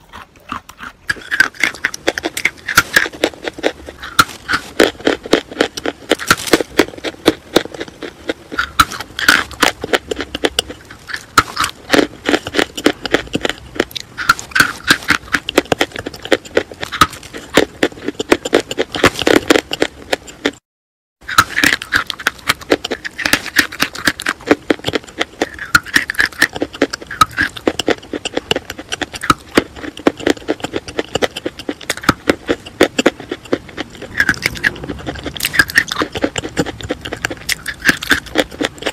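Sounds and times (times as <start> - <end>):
chalk being chewed: 0.0 - 20.6, 21.2 - 38.9.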